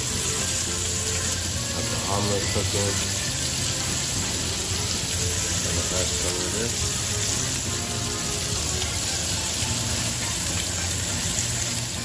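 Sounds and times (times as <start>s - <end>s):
background music: 0.0s - 12.0s
bacon sizzling in a frying pan: 0.0s - 12.0s.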